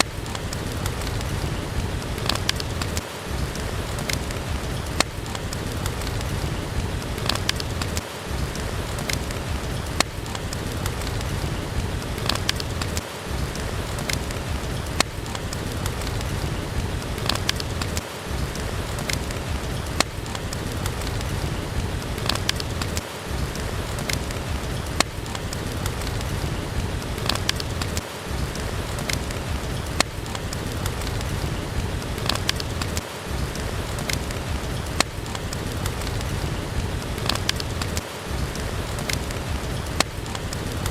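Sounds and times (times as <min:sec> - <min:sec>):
steady rain: 0:00.0 - 0:40.9
wood fire crackling: 0:00.0 - 0:40.9.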